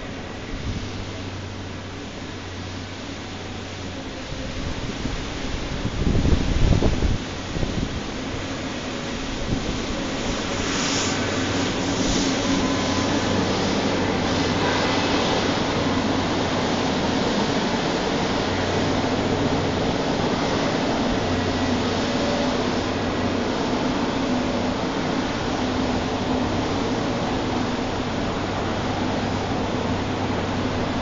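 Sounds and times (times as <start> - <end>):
subway train rumbling on viaduct: 0.0 - 31.0.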